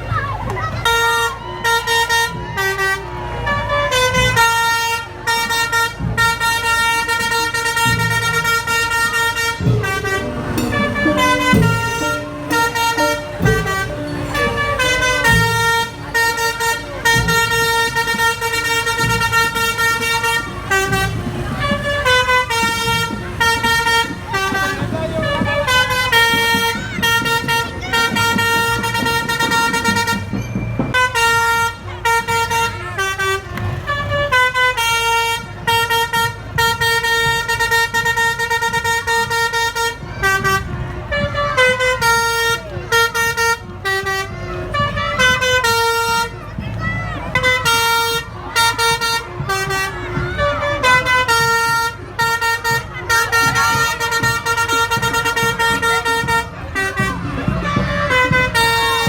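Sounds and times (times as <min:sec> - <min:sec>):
bus horn playing musical notes: 0:00.1 - 0:59.0.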